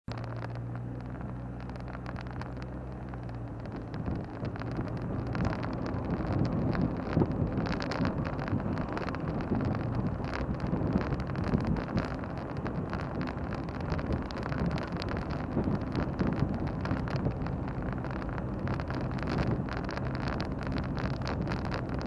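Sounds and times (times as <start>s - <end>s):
car engine idling and driving off: 0.1s - 22.0s.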